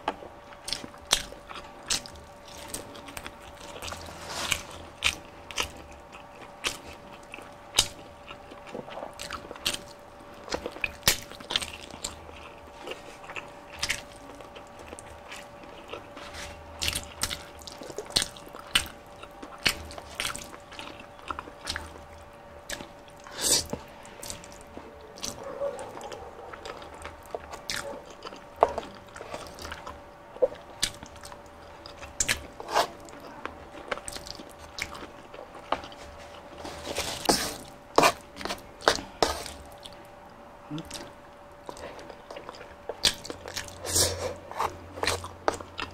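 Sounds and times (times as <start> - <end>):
crunchy chewing: 0.1 - 45.9.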